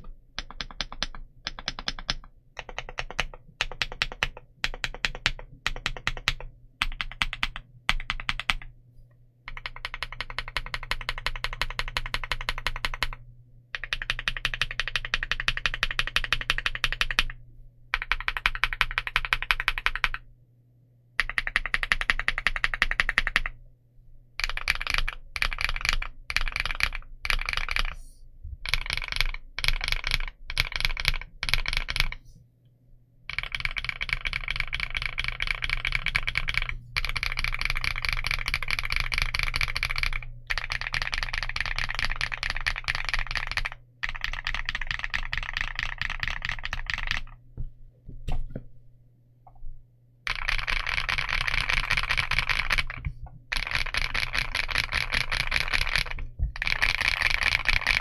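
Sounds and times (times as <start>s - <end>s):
typing on mechanical keyboard: 0.0s - 8.7s, 9.5s - 13.2s, 13.8s - 20.2s, 21.2s - 23.6s, 24.4s - 28.0s, 28.6s - 32.2s, 33.3s - 47.4s, 50.3s - 58.0s.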